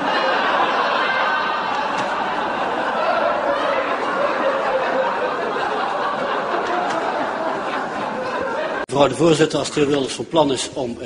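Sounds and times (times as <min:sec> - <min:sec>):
crowd laughing and talking: 0:00.0 - 0:09.0.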